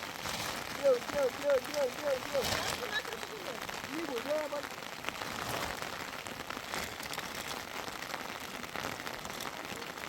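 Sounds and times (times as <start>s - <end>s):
heavy rain: 0.0s - 10.0s
raindrops ticking: 0.0s - 10.0s.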